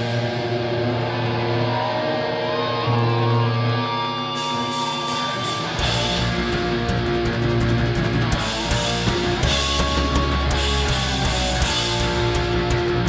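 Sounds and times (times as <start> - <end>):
electric guitars ringing: 0.0 - 13.0
punk band playing: 0.0 - 13.0.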